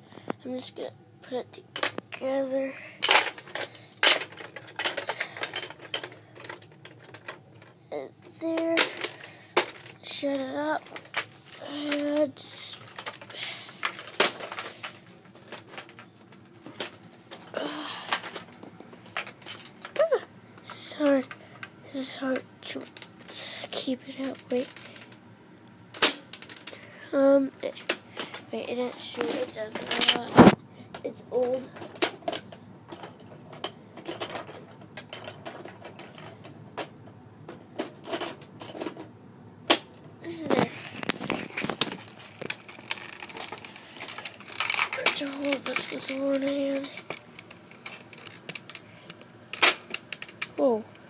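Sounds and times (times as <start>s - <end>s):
plastic parts clicking and knocking: 1.7s - 2.1s, 3.0s - 21.7s, 24.1s - 25.2s, 25.9s - 26.8s, 27.7s - 51.0s.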